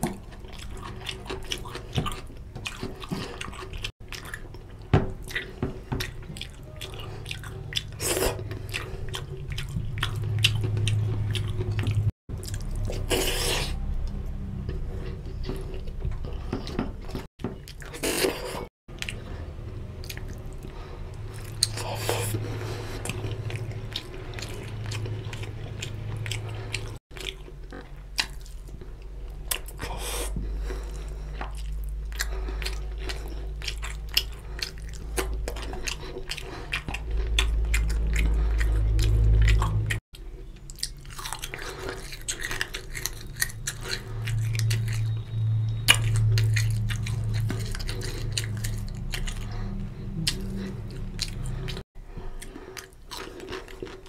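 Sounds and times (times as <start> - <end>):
chewing and biting: 0.0 - 54.0.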